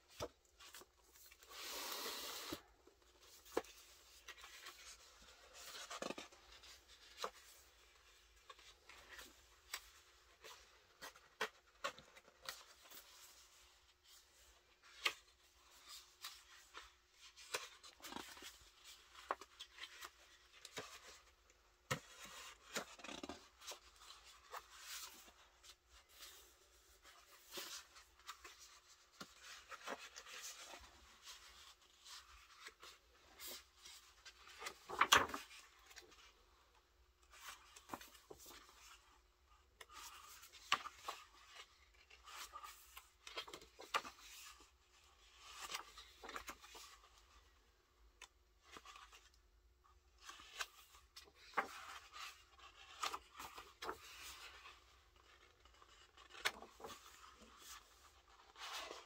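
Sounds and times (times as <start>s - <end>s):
book pages being turned: 0.1s - 59.0s.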